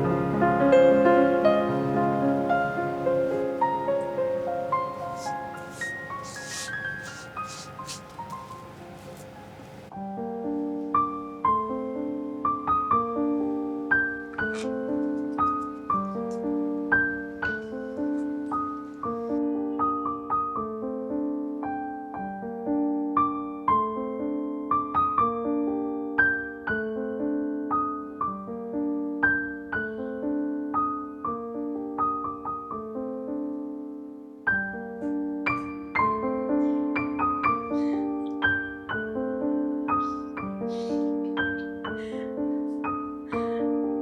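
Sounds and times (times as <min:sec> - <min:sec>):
gentle piano music: 0:00.0 - 0:44.0.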